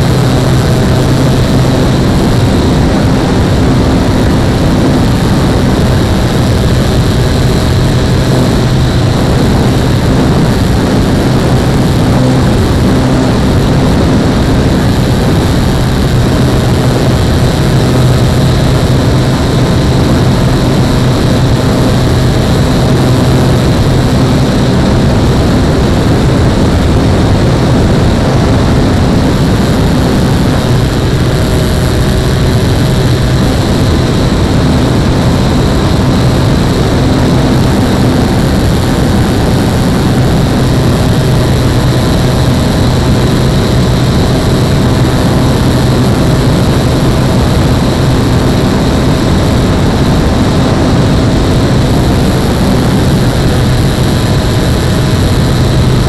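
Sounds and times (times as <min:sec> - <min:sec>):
model plane motor and propeller: 0:00.0 - 0:56.0
wind over microphone: 0:00.0 - 0:56.0.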